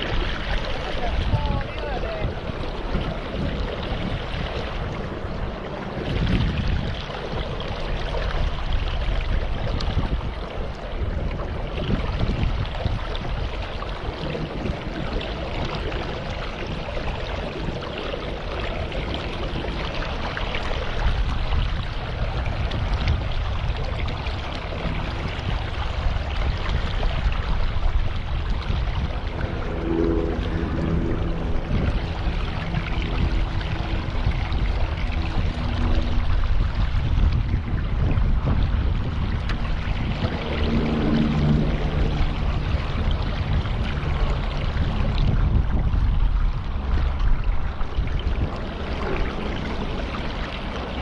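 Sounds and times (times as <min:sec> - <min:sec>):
low rumble: 0:00.0 - 0:51.0
rushing water: 0:00.0 - 0:51.0.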